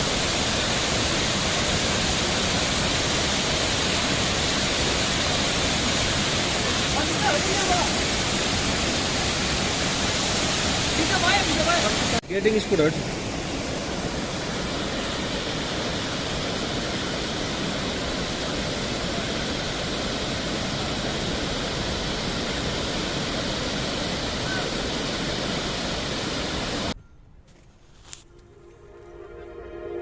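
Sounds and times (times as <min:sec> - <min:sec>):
waterfall pouring: 0:00.0 - 0:27.0.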